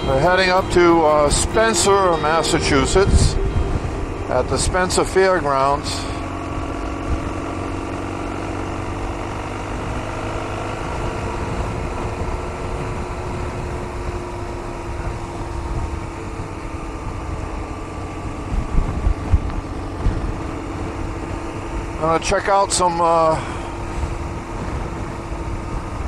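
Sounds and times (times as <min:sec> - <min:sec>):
heavy low rumble: 0:00.0 - 0:22.4
motorcycle engine cruising: 0:00.0 - 0:26.0.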